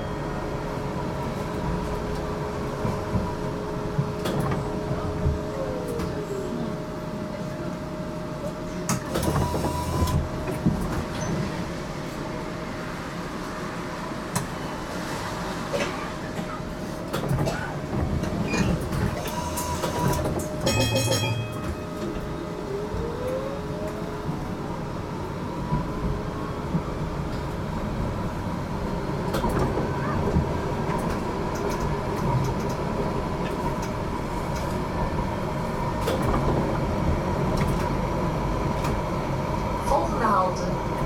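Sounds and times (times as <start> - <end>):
tram wheels rumbling on rails: 0.0 - 41.0.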